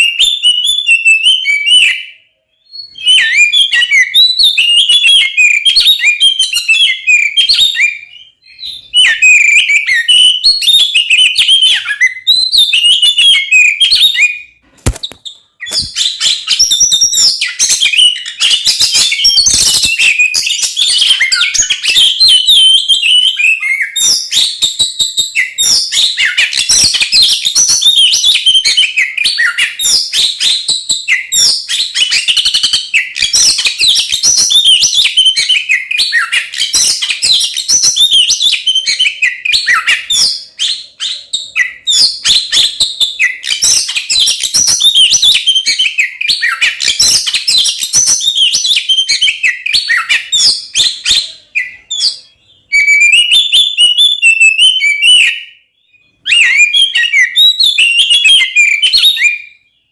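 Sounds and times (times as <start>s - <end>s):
bird singing rapid chirps: 0.0s - 59.9s.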